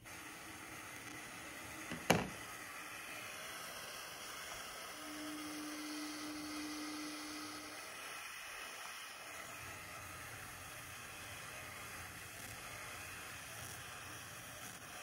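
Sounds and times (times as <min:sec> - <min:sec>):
steady low hum: 0:00.0 - 0:15.0
tesla coil spark hissing: 0:00.0 - 0:15.0.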